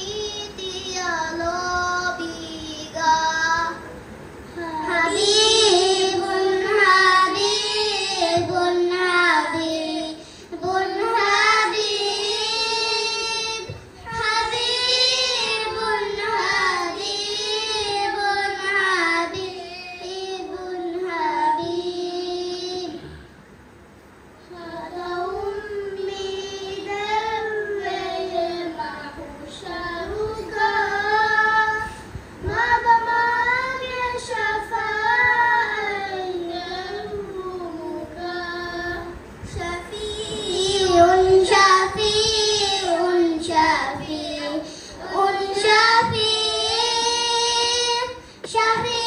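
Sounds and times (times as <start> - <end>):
children singing a devotional song: 0.0 - 23.3, 24.4 - 49.0.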